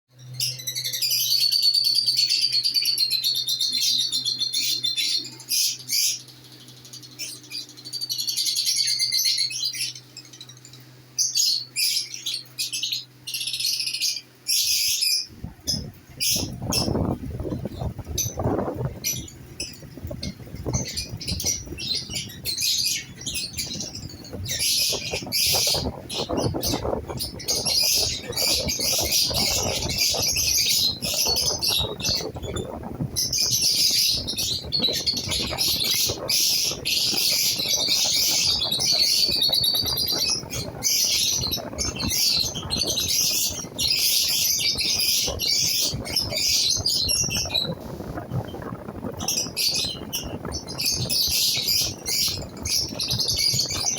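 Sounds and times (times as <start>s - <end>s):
lovebirds chattering: 0.4s - 53.9s.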